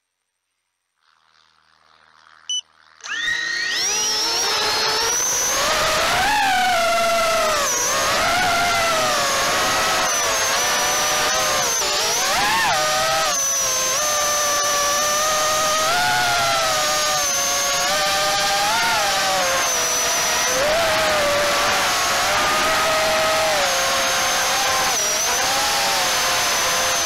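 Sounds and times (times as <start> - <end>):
drone motors whining: 1.3 - 27.0.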